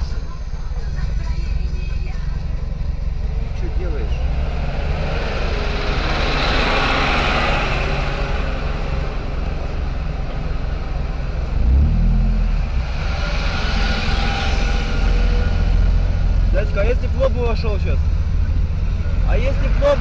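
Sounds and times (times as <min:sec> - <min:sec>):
bus engine rumble: 0:00.0 - 0:20.0
low car engine hum: 0:00.0 - 0:20.0.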